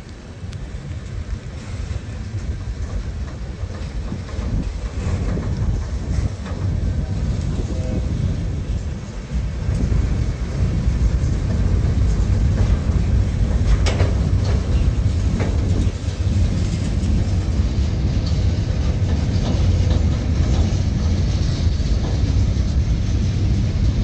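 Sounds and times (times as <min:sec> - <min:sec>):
freight train rumbling past: 0:00.0 - 0:24.0
train wheels clicking: 0:00.0 - 0:24.0.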